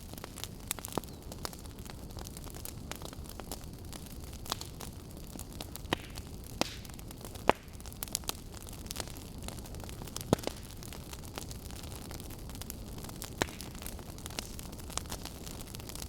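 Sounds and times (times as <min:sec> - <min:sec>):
sharp pops of burning wood: 0:00.0 - 0:16.0
wood fire crackling: 0:00.0 - 0:16.0.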